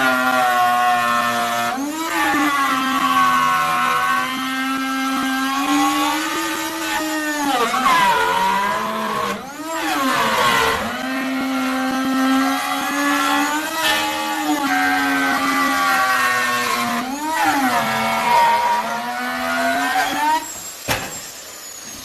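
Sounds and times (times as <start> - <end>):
power tool motor whining: 0.0 - 22.0.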